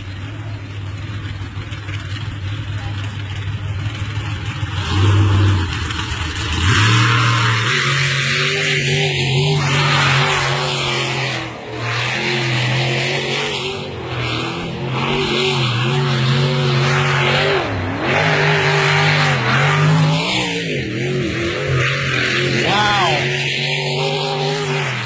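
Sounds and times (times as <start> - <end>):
racing boat engine at high revs: 0.0 - 25.0.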